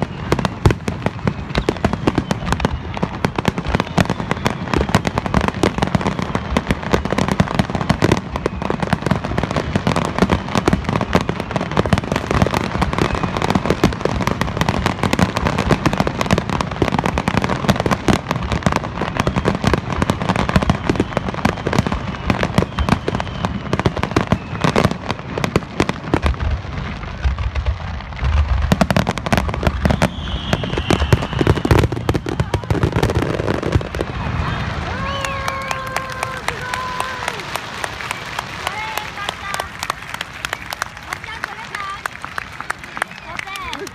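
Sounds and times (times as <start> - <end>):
firework whistle: 0.0 - 18.0, 18.7 - 25.6, 28.3 - 43.9
fireworks bangs and crackles: 0.0 - 43.9
low fireworks booms: 0.0 - 43.9.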